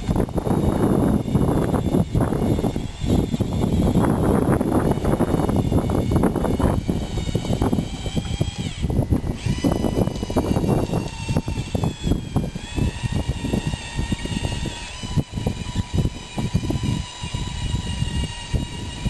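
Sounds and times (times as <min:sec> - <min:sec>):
toy bulldozer motor whine: 0:00.0 - 0:19.0.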